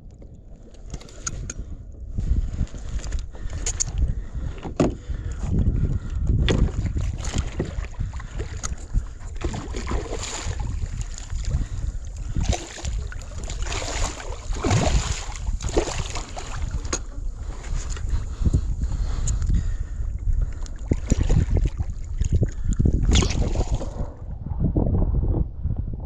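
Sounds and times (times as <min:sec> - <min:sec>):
wind buffeting microphone: 0:00.0 - 0:26.0
water sloshing against kayak hull: 0:00.2 - 0:24.2.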